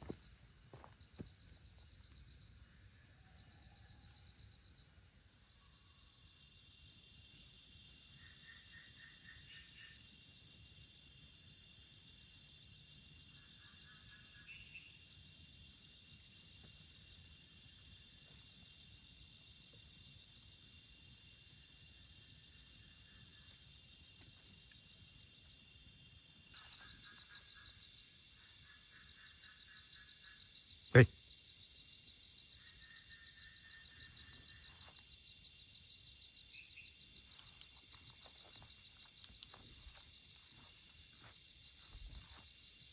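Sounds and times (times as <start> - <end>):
crickets and insects trilling: 0.0 - 42.9.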